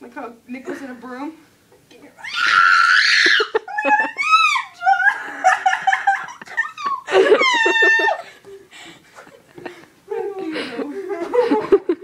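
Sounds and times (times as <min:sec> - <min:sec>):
girls laughing and squealing: 0:02.2 - 0:12.0.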